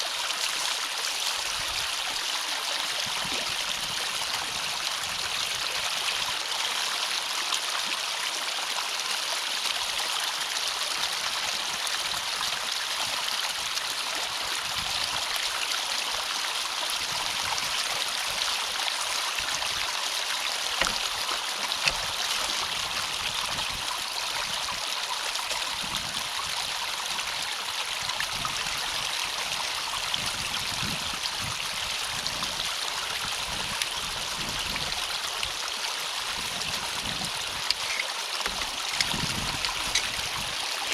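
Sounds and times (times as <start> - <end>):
water rushing through culvert: 0.0 - 40.9.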